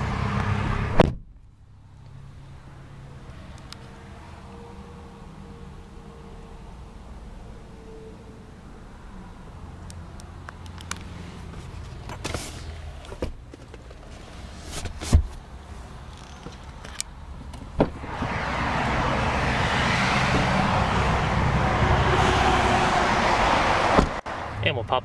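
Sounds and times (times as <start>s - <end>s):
highway traffic rushing: 0.0s - 25.0s.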